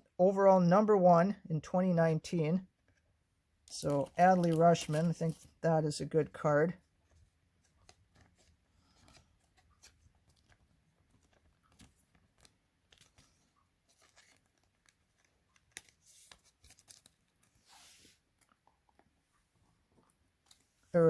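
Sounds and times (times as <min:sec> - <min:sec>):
trading cards rustling and clicking: 0:02.8 - 0:06.0, 0:06.9 - 0:21.0.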